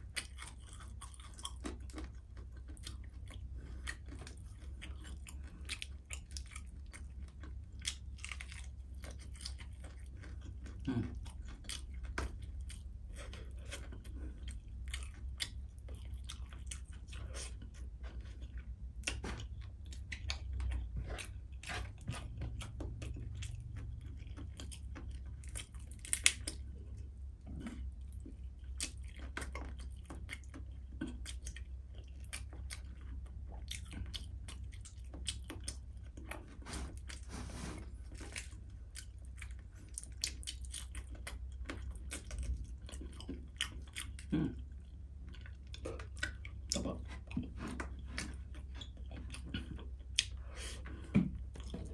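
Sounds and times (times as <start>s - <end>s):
man chewing crispy food: 0.0s - 51.9s
steady low hum: 0.0s - 51.9s.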